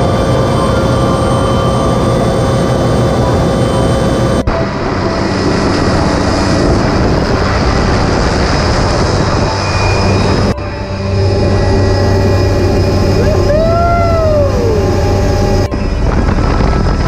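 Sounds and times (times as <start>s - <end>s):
helicopter engine and rotor whine: 0.0s - 17.0s.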